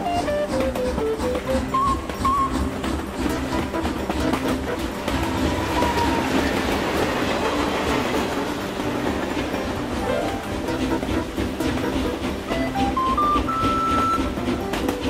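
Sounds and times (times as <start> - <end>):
background music: 0.0 - 15.0
train wheels clattering on rails: 0.0 - 15.0.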